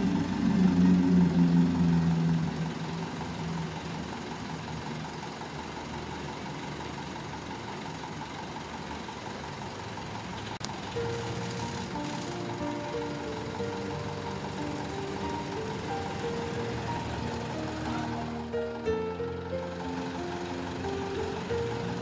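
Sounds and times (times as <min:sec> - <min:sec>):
diesel truck engine running: 0:00.0 - 0:22.0
hydraulic crane operating: 0:00.0 - 0:22.0.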